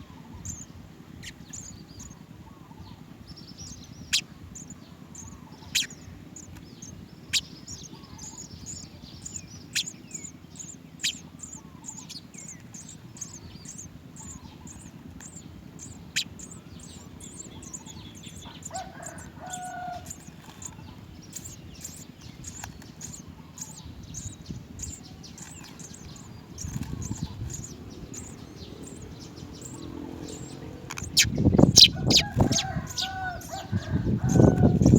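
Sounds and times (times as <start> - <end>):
sparrows chirping: 0.0 - 34.9
low rumble: 0.1 - 34.9.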